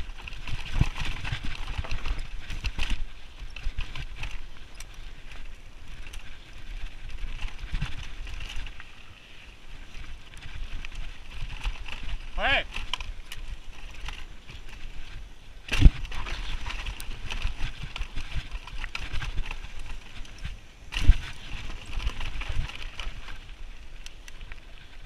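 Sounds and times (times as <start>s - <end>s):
bike rattling over rough ground: 0.0s - 25.0s.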